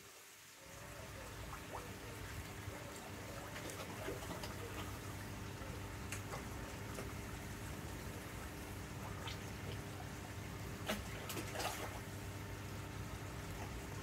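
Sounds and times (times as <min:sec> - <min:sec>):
water trickling and bubbling: 0:00.3 - 0:14.0.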